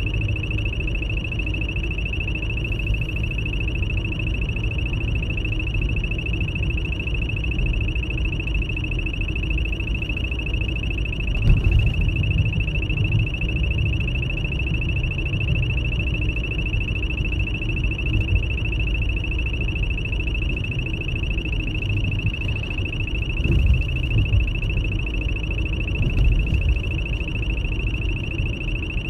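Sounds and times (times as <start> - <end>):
low rumble of car cabin: 0.0 - 29.0.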